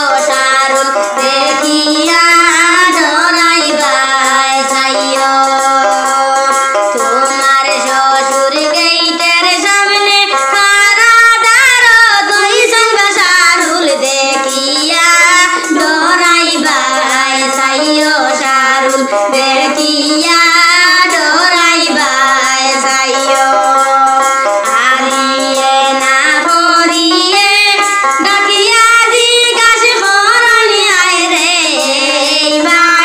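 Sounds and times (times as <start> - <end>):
woman singing: 0.0 - 33.0.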